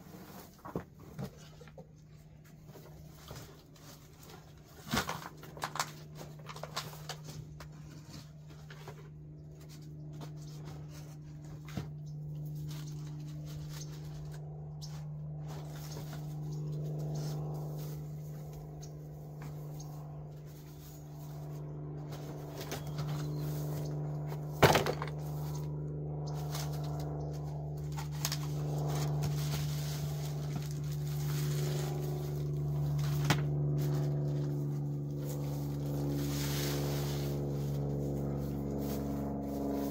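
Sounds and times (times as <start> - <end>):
engine-like hum: 0.0 - 39.9.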